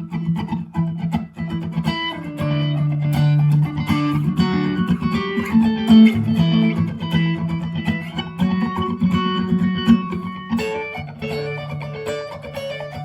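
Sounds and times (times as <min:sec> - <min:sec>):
electric guitar with delay: 0:00.0 - 0:13.0.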